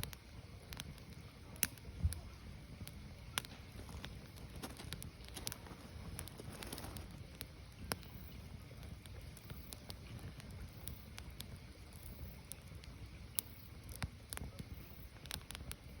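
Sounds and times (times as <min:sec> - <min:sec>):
fire crackling and popping: 0:00.0 - 0:16.0
firewood burning: 0:00.0 - 0:16.0.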